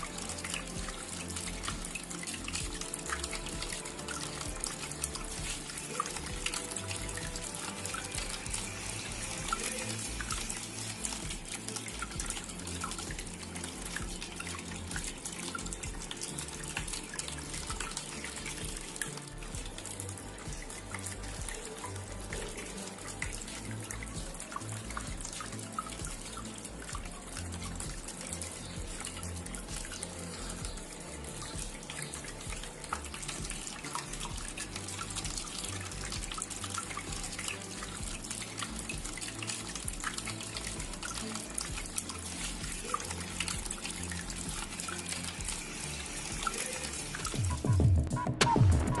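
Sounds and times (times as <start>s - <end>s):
background music: 0.0s - 49.0s
water drip ticks: 0.0s - 49.0s
water splashing in a fountain: 0.0s - 49.0s.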